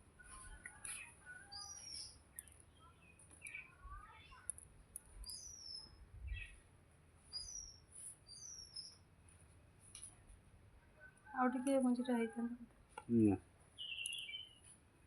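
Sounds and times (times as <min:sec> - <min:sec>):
small birds chirping: 0:00.2 - 0:10.3, 0:11.0 - 0:14.9.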